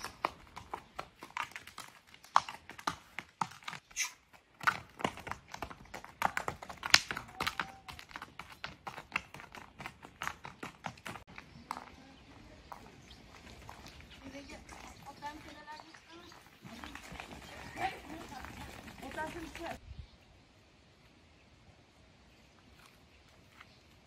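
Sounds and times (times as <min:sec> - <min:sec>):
horse hooves on stony road: 0:00.0 - 0:19.8.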